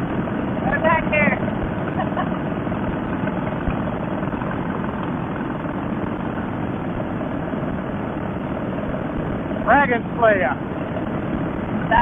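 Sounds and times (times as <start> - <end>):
vehicle engine and wind rumble: 0.0 - 12.0.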